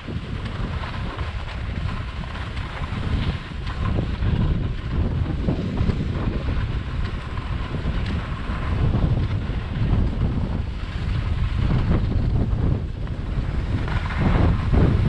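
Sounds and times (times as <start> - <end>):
skis sliding on packed snow: 0.0 - 15.0
wind buffeting microphone: 0.0 - 15.0.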